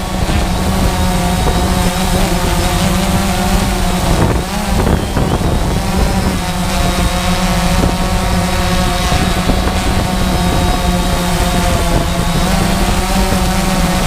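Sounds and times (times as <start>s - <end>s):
drone propellers buzzing: 0.0s - 14.0s
wind buffeting microphone: 0.0s - 14.0s.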